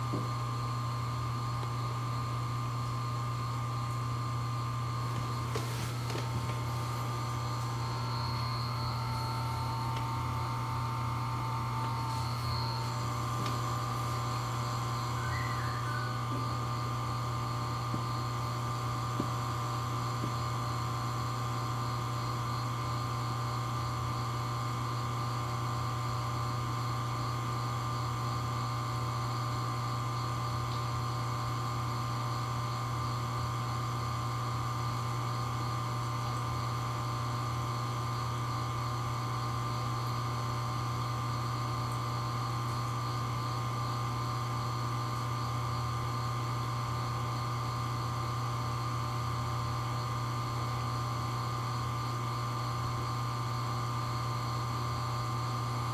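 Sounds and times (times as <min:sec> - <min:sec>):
aquarium pump humming with whine: 0:00.0 - 0:55.9.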